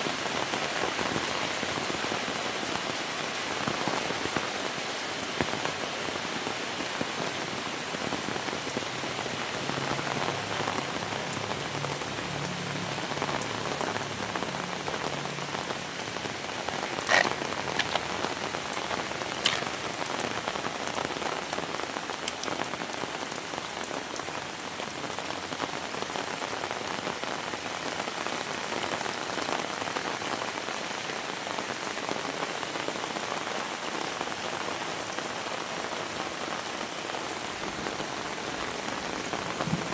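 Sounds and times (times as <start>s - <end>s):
heavy rain falling: 0.0s - 39.9s
sharp rain taps: 0.1s - 33.2s, 37.1s - 39.9s.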